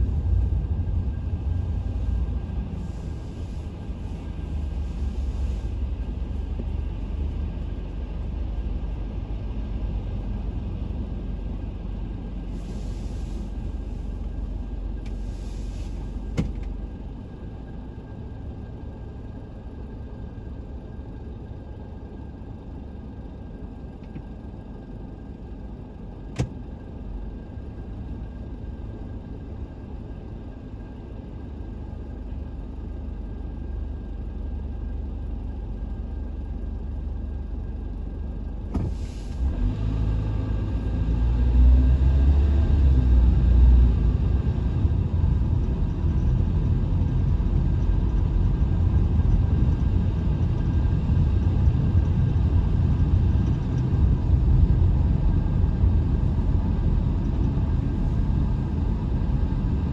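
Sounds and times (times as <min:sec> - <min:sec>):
vehicle rumble from inside: 0:00.0 - 0:59.9.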